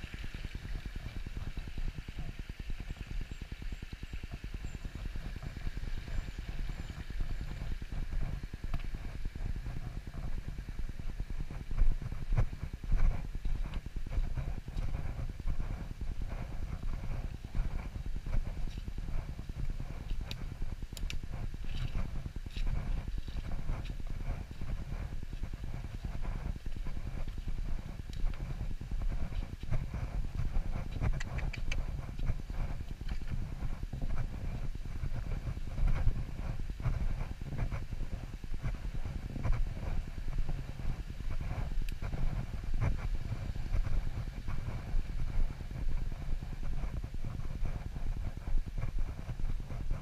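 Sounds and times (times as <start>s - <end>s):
low rumble: 0.0s - 50.0s
footsteps on dirt path: 4.2s - 50.0s.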